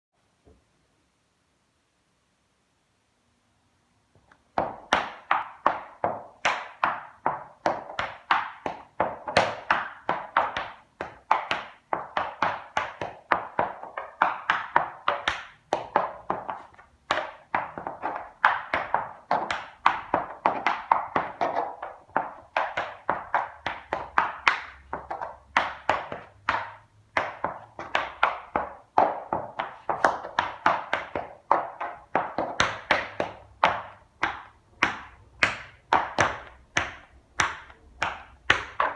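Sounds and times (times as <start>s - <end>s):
tap shoes on wooden board: 4.2s - 38.9s.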